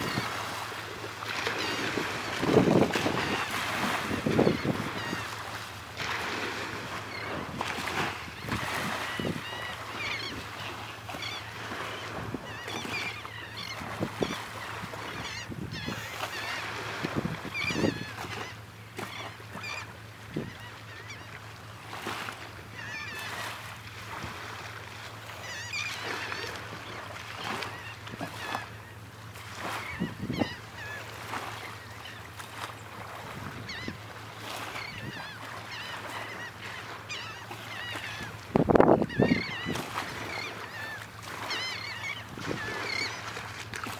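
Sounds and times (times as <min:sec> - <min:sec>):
water birds calling: 0:00.0 - 0:43.9.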